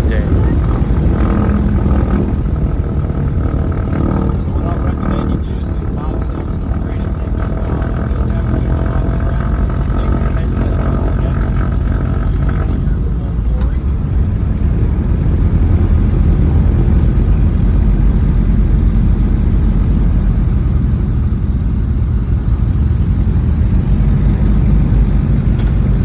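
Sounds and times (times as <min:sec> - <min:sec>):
twin radial aircraft engines idling: 0:00.0 - 0:26.0.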